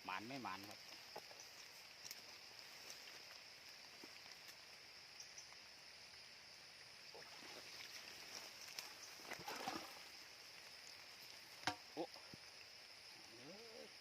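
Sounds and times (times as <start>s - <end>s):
faint high insect buzz: 0.0s - 14.0s.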